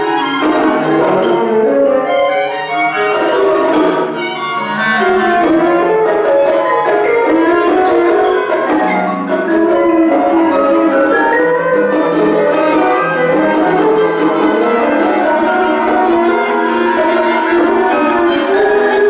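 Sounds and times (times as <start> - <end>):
cello: 0.0 - 19.0
plucked or struck notes: 0.0 - 19.0
violin: 0.0 - 19.0
wind instruments: 0.0 - 19.0.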